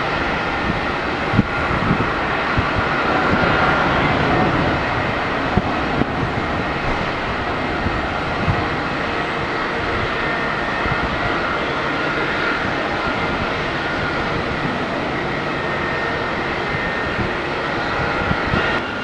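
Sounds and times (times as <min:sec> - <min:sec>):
jet engines rushing with whine: 0:00.0 - 0:19.0.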